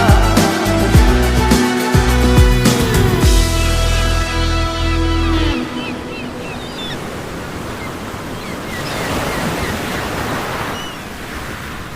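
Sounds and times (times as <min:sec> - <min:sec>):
sea surf rushing: 0:00.0 - 0:11.9.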